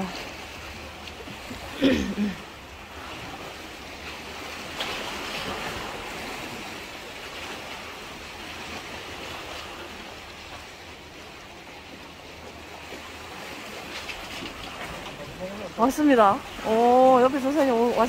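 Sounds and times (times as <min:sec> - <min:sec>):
sea washing against rocks: 0:00.0 - 0:18.0.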